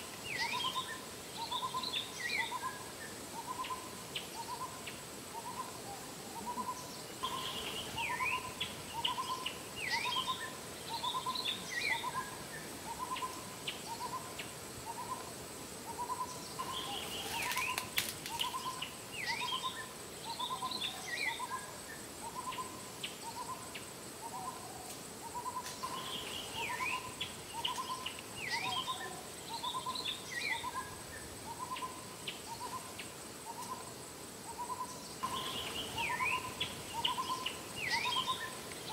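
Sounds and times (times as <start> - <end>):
high insect-like whine: 0.0 - 38.9.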